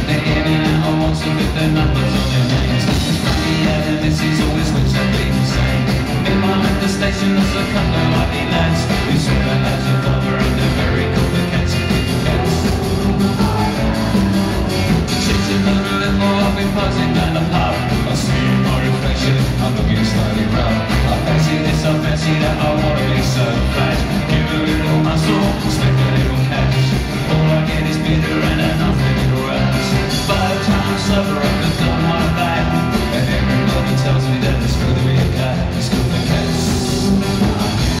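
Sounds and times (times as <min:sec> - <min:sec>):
drums: 0:00.0 - 0:38.0
guitars: 0:00.0 - 0:38.0
keyboards: 0:00.0 - 0:38.0.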